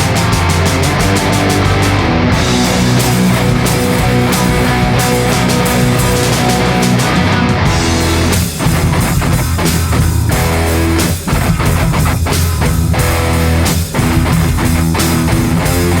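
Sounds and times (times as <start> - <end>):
bass guitar: 0.0 - 16.0
distorted electric guitar riff: 0.0 - 16.0
drum kit: 0.0 - 16.0.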